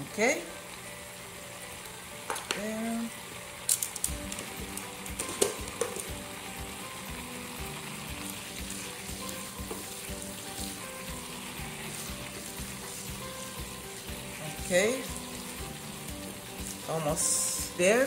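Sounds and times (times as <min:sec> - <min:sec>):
butter sizzling in a pot: 0:00.0 - 0:18.0.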